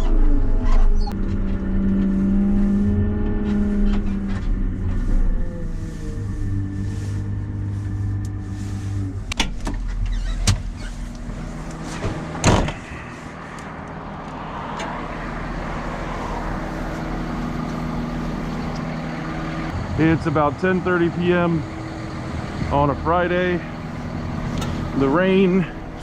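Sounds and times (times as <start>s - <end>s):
wheel loader diesel engine: 0.0s - 26.0s.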